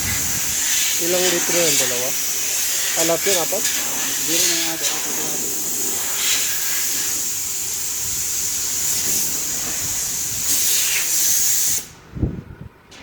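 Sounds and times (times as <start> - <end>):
compressed air hissing: 0.0 - 12.0.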